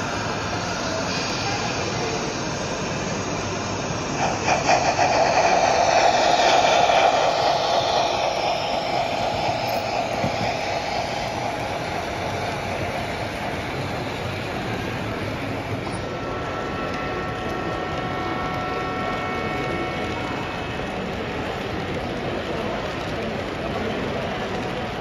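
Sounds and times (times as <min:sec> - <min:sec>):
hall hum: 0:00.0 - 0:21.8
clicks of train on track: 0:00.0 - 0:25.0
model train rolling whir: 0:00.0 - 0:25.0.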